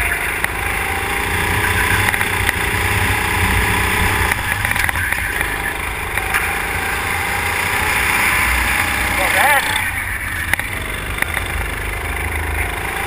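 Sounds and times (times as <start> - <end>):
go-kart engine running hard: 0.0 - 13.0.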